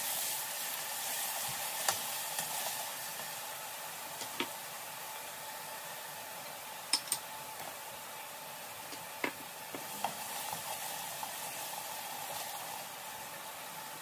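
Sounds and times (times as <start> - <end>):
steady hiss from pot: 0.0 - 14.0.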